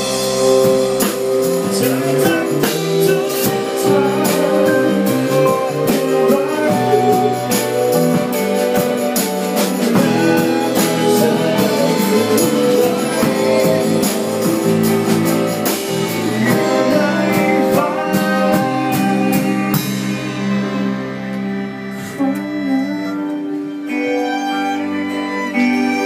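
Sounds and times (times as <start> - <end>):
drums and cymbals: 0.0 - 22.2.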